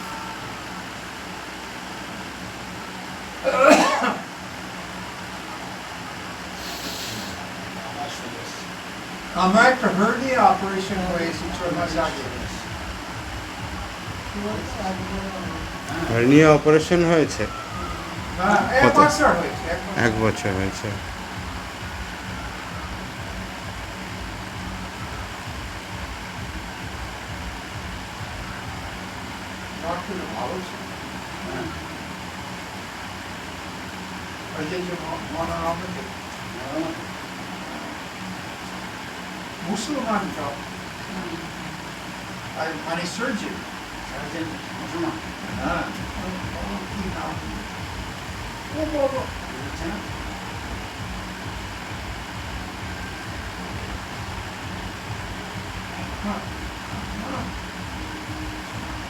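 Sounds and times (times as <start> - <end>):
room background hiss: 0.0 - 59.0
steady low hum: 0.0 - 59.0.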